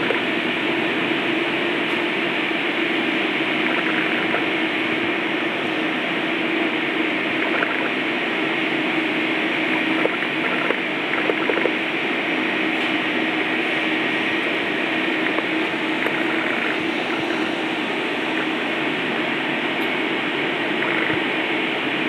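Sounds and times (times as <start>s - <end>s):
ventilation and refrigeration hum: 0.0s - 22.0s.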